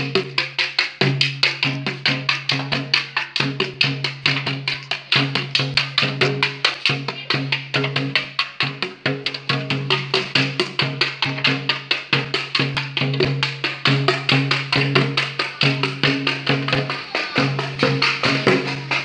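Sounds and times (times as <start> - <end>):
rapid percussion hits: 0.0 - 19.0.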